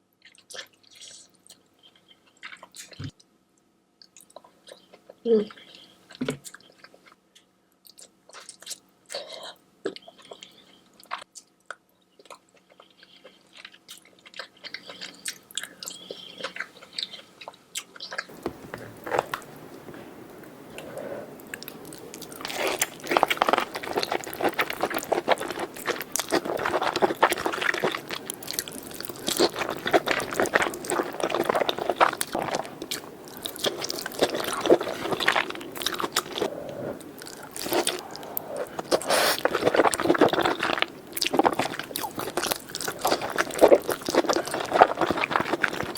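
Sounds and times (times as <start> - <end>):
crunching and wet chewing: 0.2 - 3.2, 9.9 - 19.6, 21.4 - 45.9.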